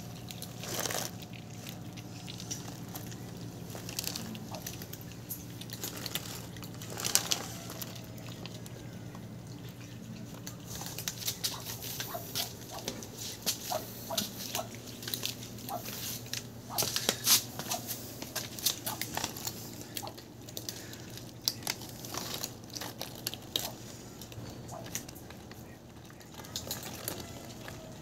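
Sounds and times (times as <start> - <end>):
cats crunching dry kibble: 0.0 - 28.0.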